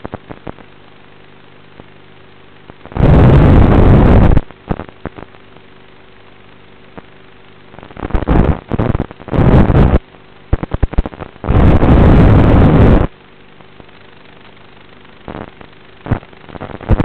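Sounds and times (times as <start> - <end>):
crackling static bursts: 0.0 - 17.0
rush of static: 0.0 - 17.0
steady low buzz: 0.0 - 17.0.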